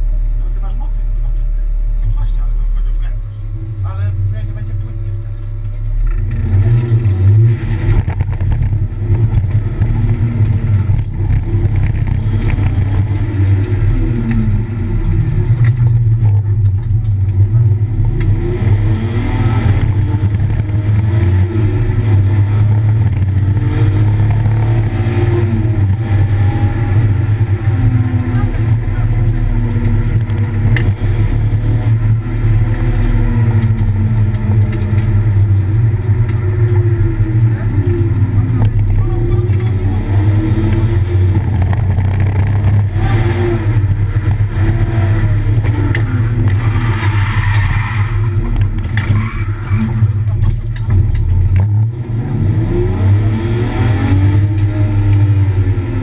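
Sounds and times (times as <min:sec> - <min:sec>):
car engine revving in cabin: 0:00.0 - 0:56.0.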